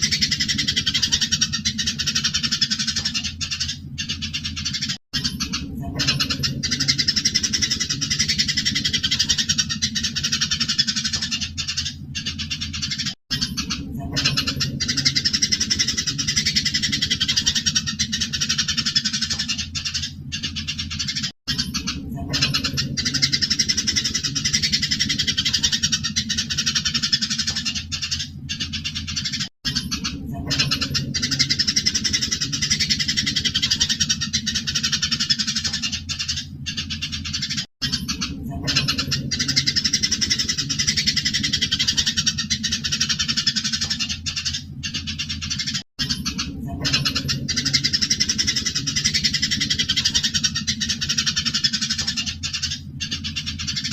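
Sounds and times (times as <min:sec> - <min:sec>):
low steady hum: 0:00.0 - 0:53.9
sparrows chattering and chirping: 0:00.0 - 0:53.9.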